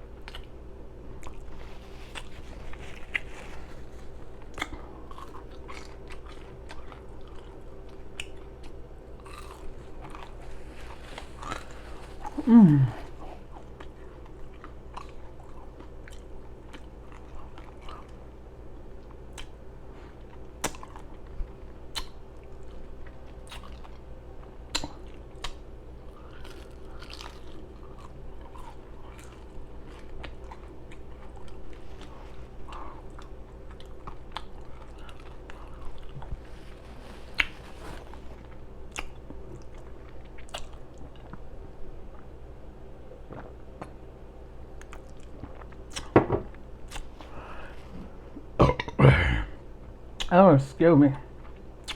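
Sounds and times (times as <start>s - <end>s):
open-mouthed chewing: 0.1s - 42.3s, 44.8s - 46.1s, 51.4s - 51.9s.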